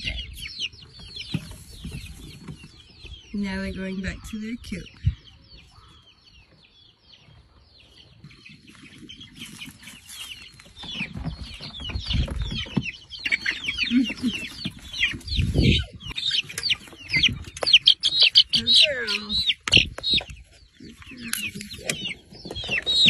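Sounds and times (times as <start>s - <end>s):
chickens calling: 0.0s - 23.0s.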